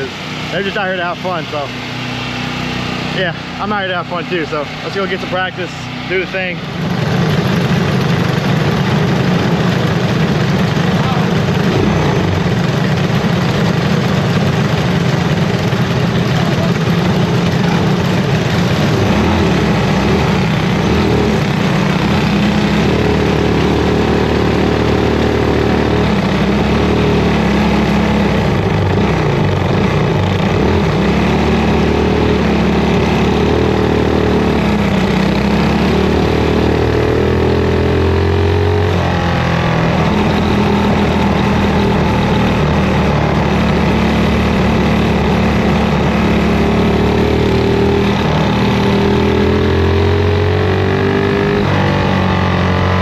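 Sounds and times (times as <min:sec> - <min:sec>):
go-kart engine revving: 0:00.0 - 0:53.0
other kart engines: 0:00.0 - 0:53.0.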